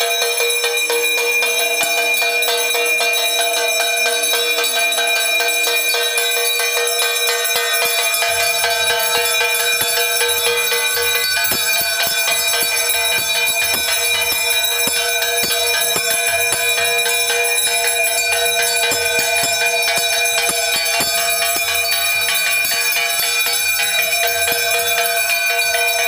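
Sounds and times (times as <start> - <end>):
temple bell ringing: 0.0 - 26.0.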